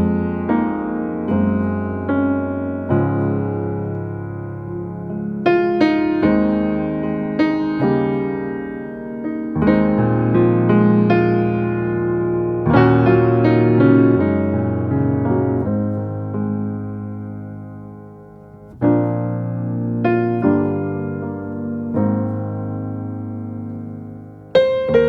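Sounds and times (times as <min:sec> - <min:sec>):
slow gentle piano chords: 0:00.0 - 0:25.0.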